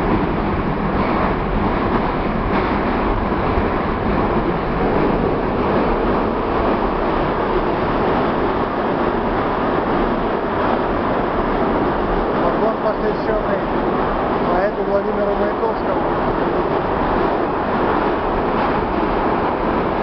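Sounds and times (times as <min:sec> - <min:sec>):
metro train running: 0:00.0 - 0:20.0.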